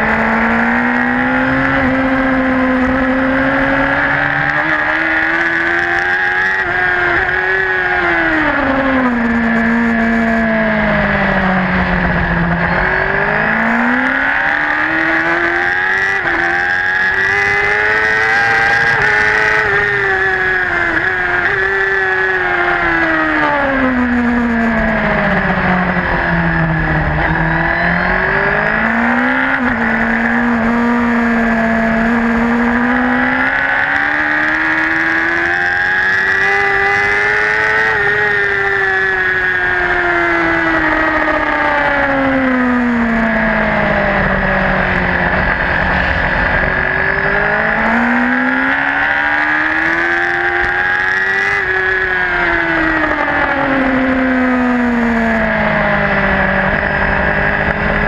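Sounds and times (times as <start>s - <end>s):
motorcycle engine revving and shifting: 0.0s - 58.0s.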